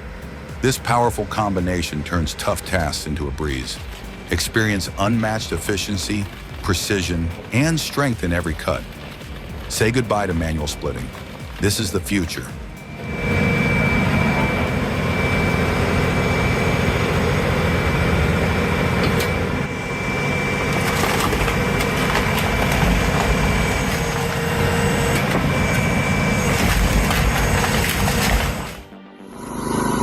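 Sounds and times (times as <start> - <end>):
machinery high whine: 0.0 - 30.0.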